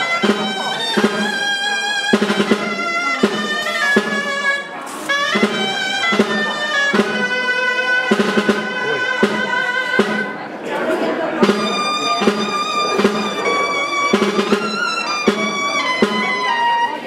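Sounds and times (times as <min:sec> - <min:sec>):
shawms playing reedy melody: 0:00.0 - 0:10.6, 0:11.2 - 0:17.0
drum strokes: 0:00.0 - 0:17.0.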